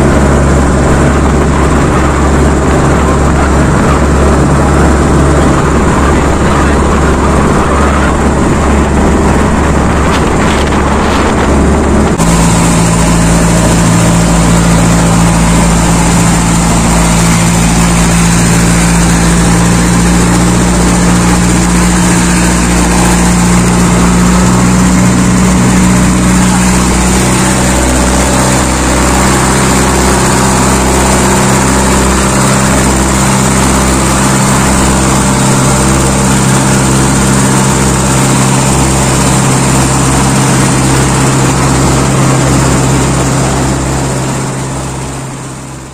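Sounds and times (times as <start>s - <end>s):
wind rushing: 0.0s - 45.1s
boat engine running at speed: 0.0s - 45.9s
water rushing past: 0.0s - 45.9s.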